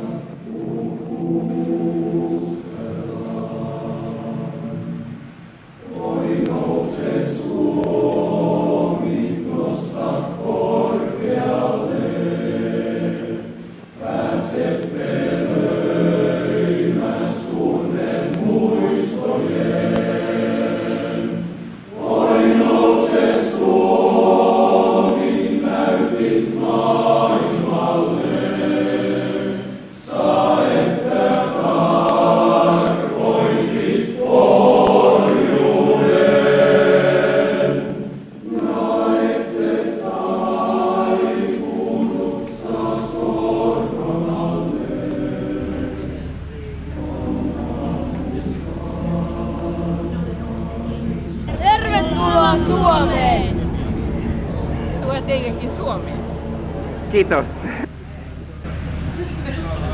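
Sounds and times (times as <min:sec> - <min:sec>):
male choir singing: 0:00.0 - 0:57.9.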